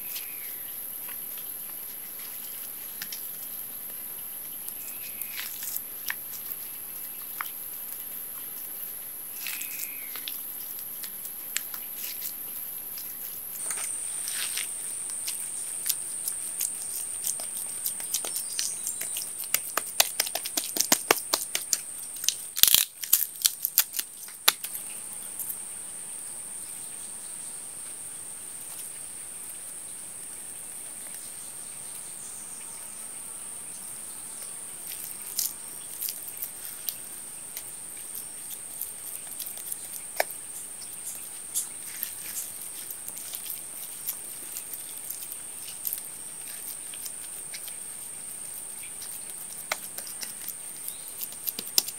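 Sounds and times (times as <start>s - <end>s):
hands patting wet clay: 0.0s - 24.8s, 34.9s - 51.9s.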